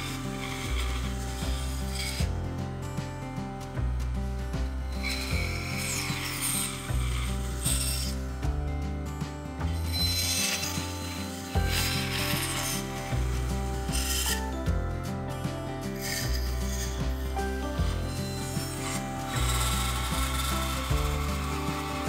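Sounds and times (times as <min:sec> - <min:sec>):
background music: 0:00.0 - 0:22.0
bandsaw cutting wood: 0:00.0 - 0:22.0.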